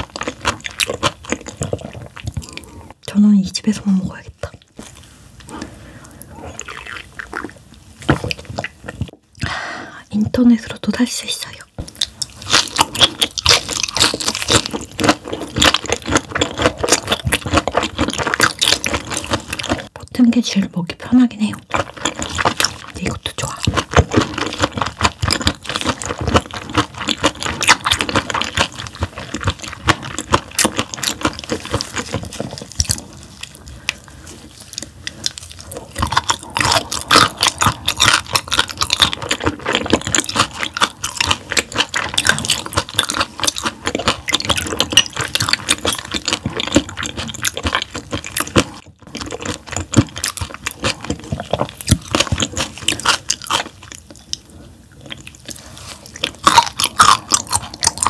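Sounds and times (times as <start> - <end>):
wet chewing mouth sounds: 0.0 - 3.1, 3.9 - 9.6, 11.3 - 58.0.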